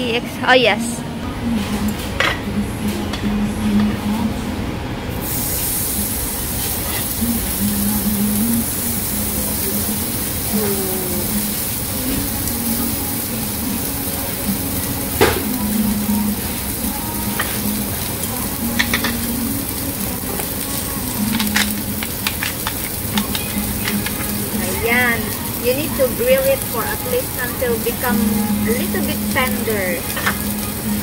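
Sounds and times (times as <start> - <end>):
meat sizzling on hot stone: 5.2 - 31.0.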